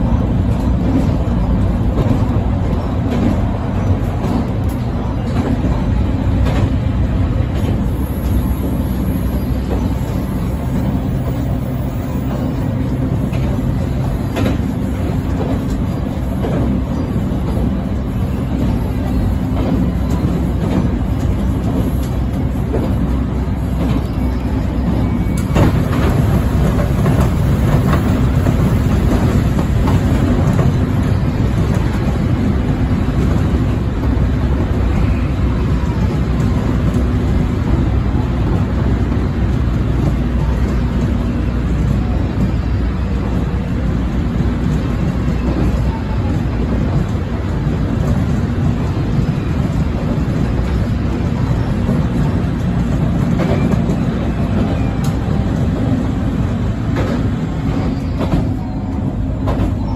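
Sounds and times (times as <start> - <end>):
train rumbling: 0.0 - 59.9
wheels clicking on rails: 0.0 - 59.9.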